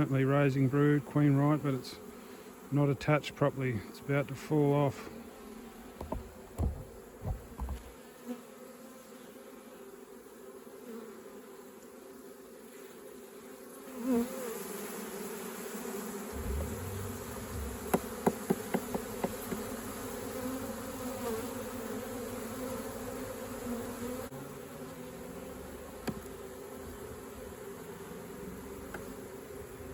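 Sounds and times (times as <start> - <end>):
honeybees buzzing: 0.0 - 29.9.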